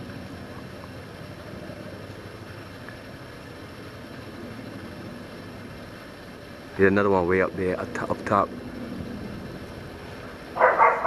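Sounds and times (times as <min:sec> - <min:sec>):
helicopter rotor drone: 0:00.0 - 0:11.0.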